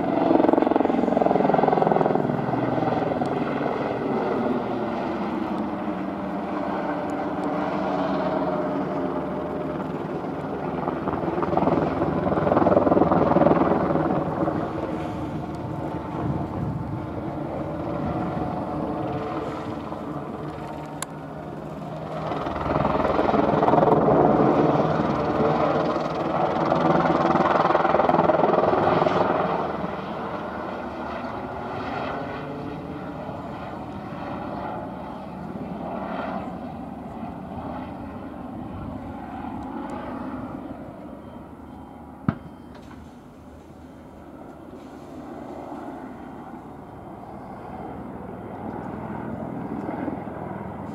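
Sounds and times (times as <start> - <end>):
helicopter turbine and rotors: 0.0 - 50.9.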